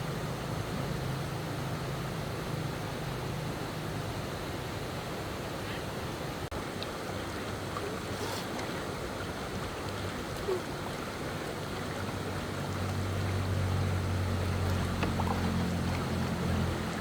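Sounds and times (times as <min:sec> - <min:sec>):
low steady hum: 0:00.0 - 0:17.0
stream water rushing: 0:00.0 - 0:17.0.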